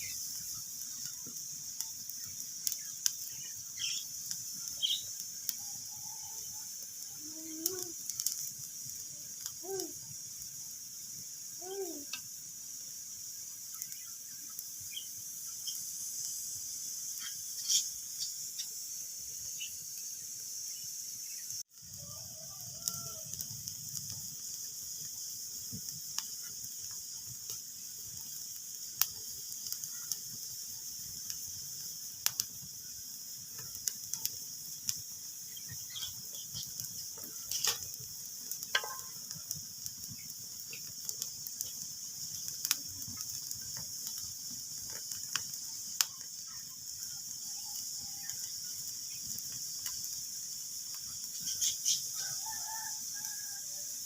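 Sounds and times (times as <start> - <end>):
wood fire crackling and popping: 0.0 - 20.1, 21.5 - 53.6.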